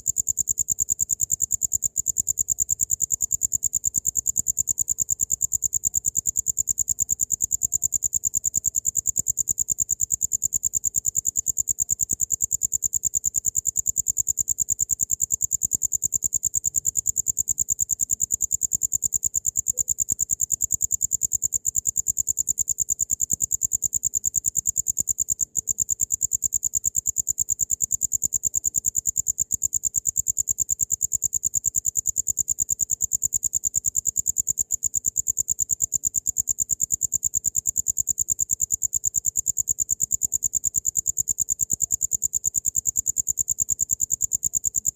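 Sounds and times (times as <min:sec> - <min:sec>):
cricket chirping: 0:00.0 - 0:44.9.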